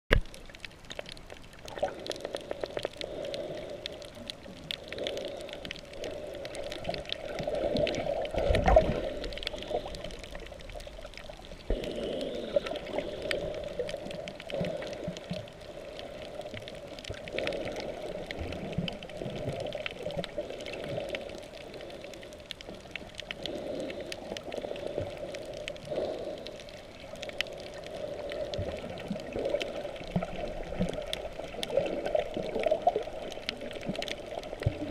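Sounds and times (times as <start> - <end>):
faint clicks: 0.1 - 34.9
muffled underwater sloshing: 0.1 - 34.9.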